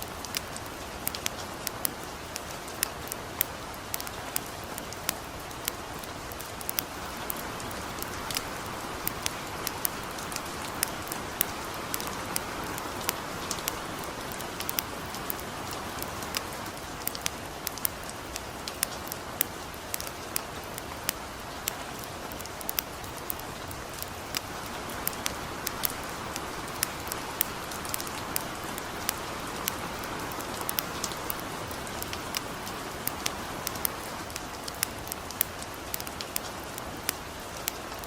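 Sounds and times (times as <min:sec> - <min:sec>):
campfire crackling and popping: 0:00.0 - 0:38.0
gentle rain hiss: 0:00.0 - 0:38.0.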